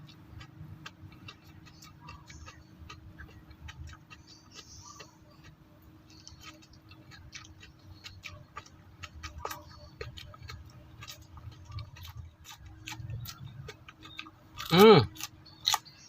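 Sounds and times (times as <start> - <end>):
crisp chewing crunches: 0.0 - 16.0.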